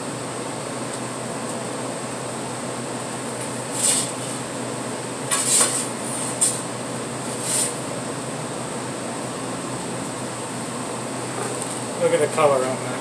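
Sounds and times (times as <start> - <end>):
fan hum: 0.0 - 13.0.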